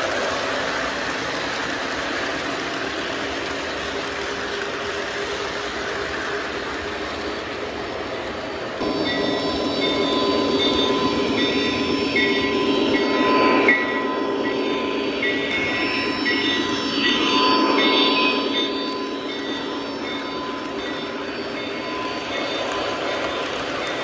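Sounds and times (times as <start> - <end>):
model train wheels on rails: 0.0 - 24.0.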